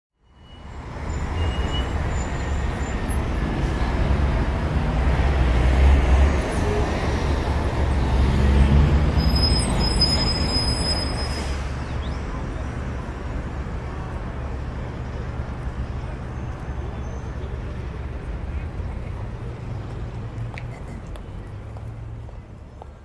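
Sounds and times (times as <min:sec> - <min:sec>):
low rumble of road traffic: 0:00.2 - 0:23.0.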